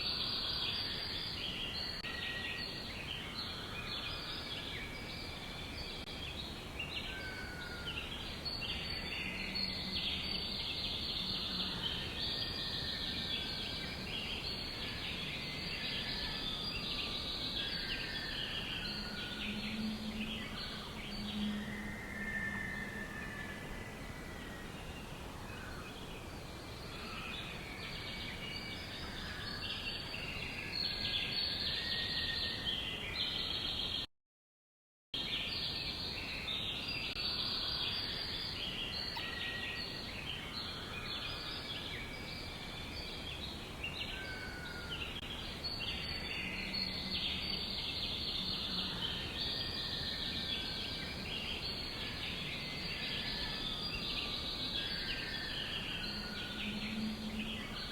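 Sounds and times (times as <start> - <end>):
songbirds chirping and trilling: 0.0 - 34.1, 35.2 - 57.9.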